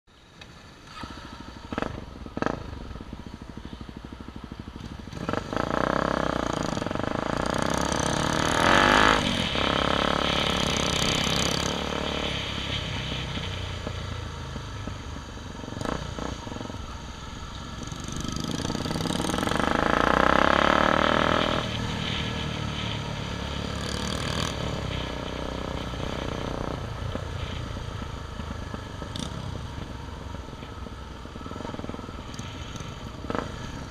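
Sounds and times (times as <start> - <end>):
motorcycle engine running: 0.7 - 33.9.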